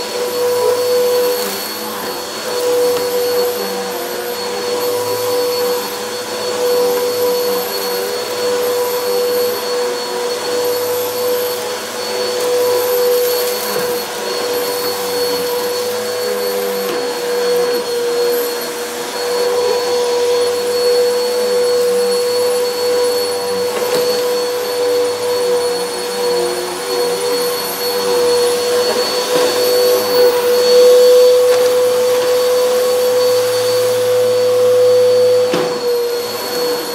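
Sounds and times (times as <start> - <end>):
vacuum cleaner running on carpet: 0.0 - 36.9.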